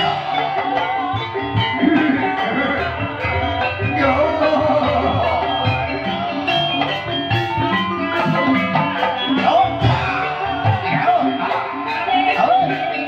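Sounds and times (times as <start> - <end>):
hand drums: 0.0 - 13.0
tuned metal percussion melody: 0.0 - 13.0.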